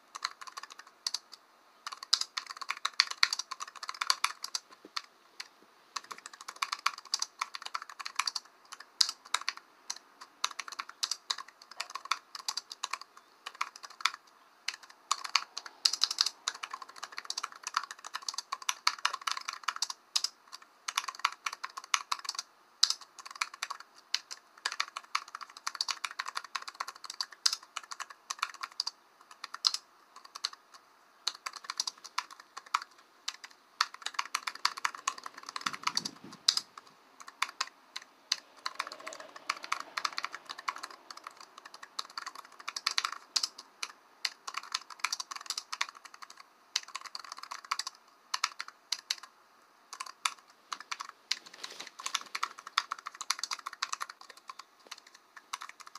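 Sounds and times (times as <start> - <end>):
computer keyboard typing: 0.0 - 49.3, 49.9 - 55.9.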